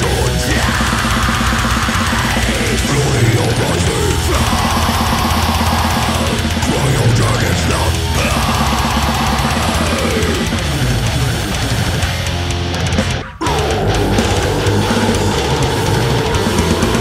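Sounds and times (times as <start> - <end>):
distorted electric guitars: 0.0 - 17.0
fast drumming: 0.0 - 17.0.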